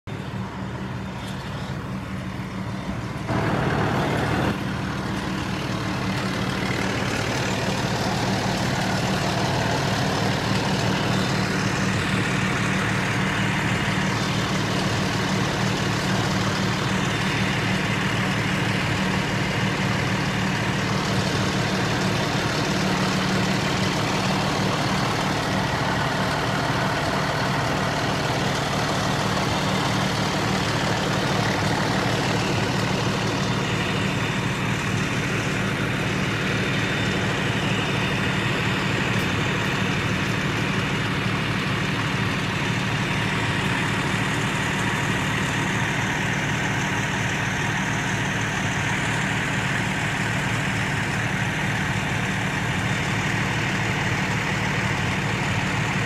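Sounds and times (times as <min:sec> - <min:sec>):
fire engine engine running: 0:00.0 - 0:56.0.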